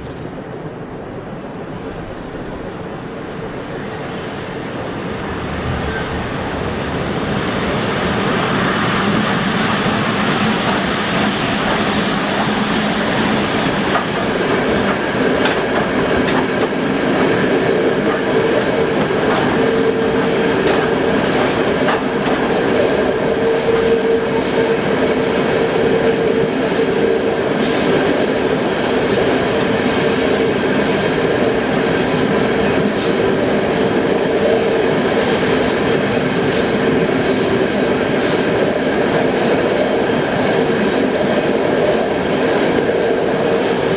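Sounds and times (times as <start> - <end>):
train wheels clattering on rails: 5.8 - 43.9.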